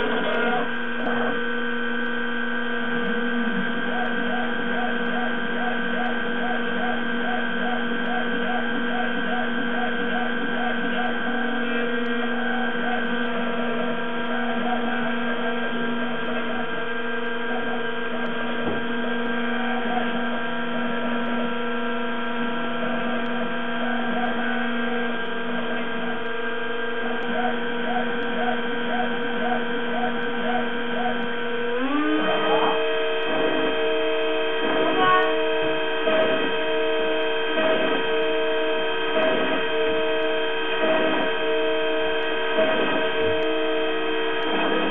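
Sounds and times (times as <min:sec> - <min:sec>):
wax milling machine whine: 0:00.0 - 0:44.9.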